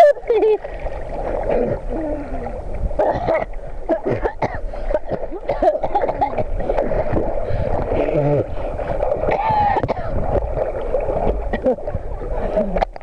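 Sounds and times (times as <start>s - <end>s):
river water sloshing and gurgling: 0.0s - 13.0s.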